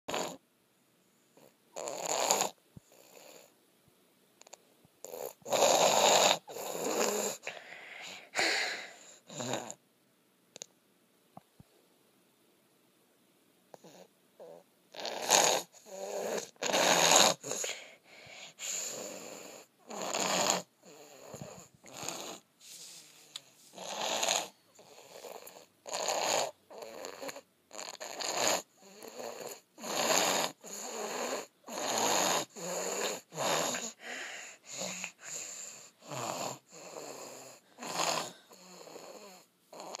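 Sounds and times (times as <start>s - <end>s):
boy snoring: 0.1s - 0.4s, 1.4s - 3.5s, 5.0s - 9.8s, 13.7s - 40.0s.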